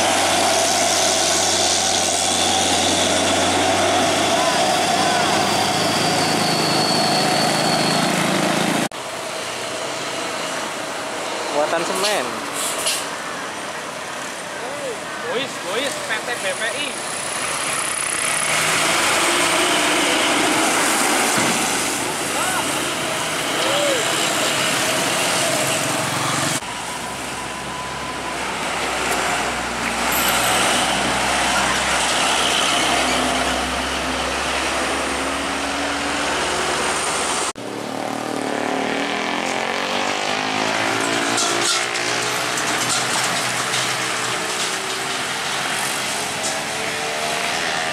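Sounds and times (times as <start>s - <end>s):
diesel truck engines labouring: 0.0s - 47.9s
traffic: 0.0s - 47.9s.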